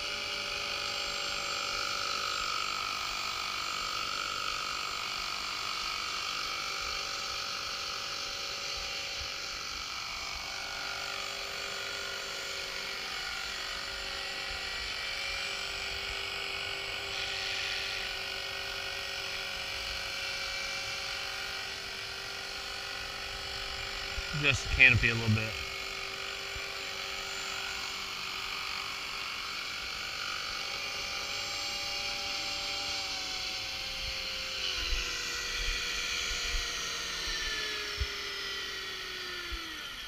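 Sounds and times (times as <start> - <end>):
rc helicopter motor whine: 0.0 - 40.0.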